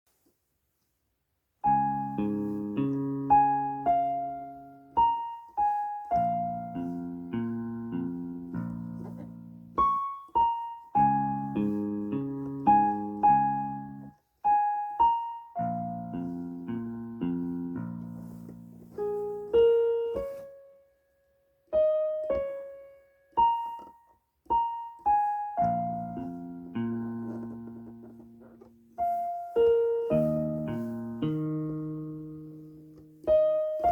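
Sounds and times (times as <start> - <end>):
keyboard piano melody: 1.6 - 33.9.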